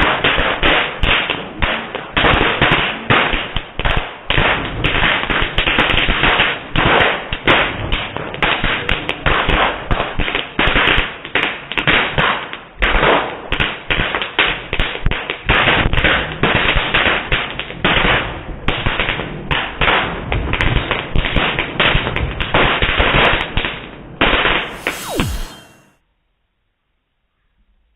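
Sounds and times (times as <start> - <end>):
fireworks bangs and crackles: 0.0 - 25.9.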